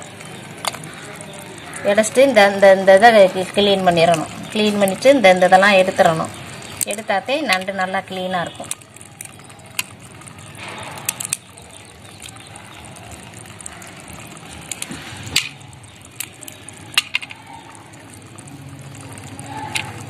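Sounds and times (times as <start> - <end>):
crab shells cracking: 0.0 - 20.0.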